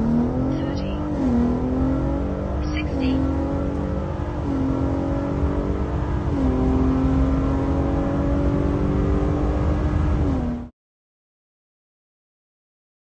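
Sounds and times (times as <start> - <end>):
engine at full throttle shifting gears: 0.0 - 10.7.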